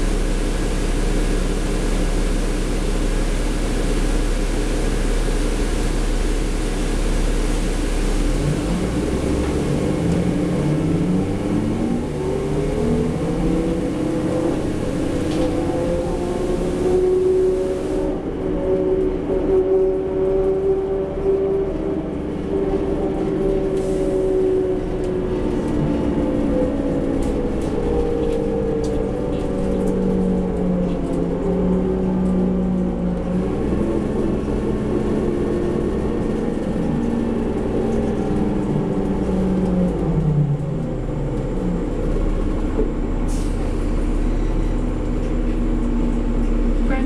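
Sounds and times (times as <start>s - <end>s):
bus engine and transmission whine: 0.0s - 47.0s.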